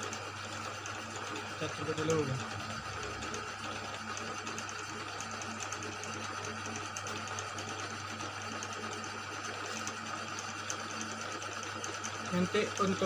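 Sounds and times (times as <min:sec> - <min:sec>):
electric motor humming and ticking: 0:00.0 - 0:13.0.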